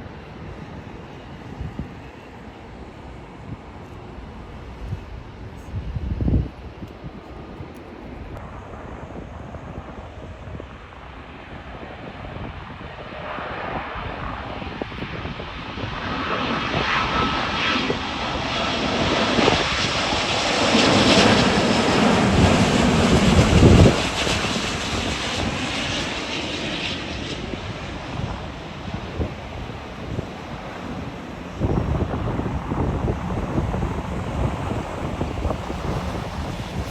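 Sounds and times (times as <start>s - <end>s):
jet airliner engine roar: 0.0s - 36.9s.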